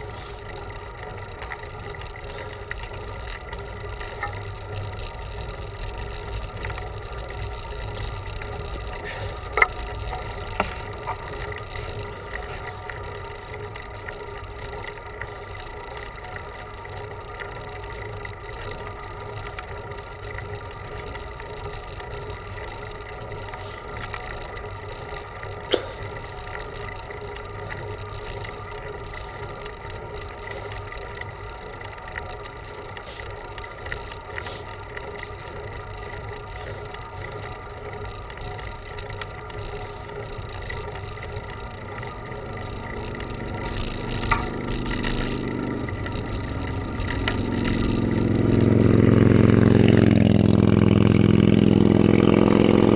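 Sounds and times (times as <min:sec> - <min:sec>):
bicycle tyre hum and drivetrain: 0:00.0 - 0:52.9.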